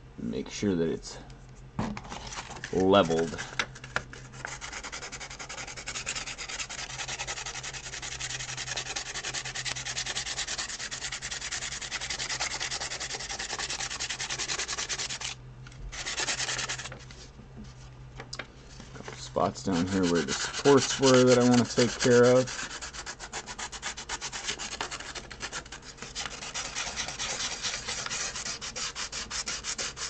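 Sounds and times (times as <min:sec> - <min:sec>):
sandpaper rubbing: 0:02.2 - 0:03.4, 0:04.2 - 0:17.0, 0:19.5 - 0:30.0.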